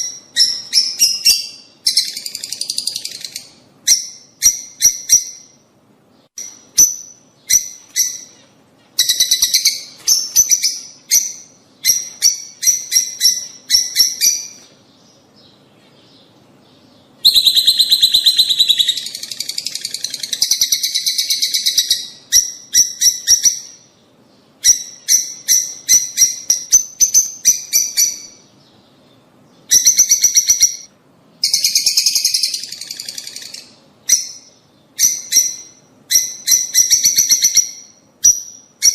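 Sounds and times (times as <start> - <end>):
birds chattering shrill chirps: 0.0 - 38.9.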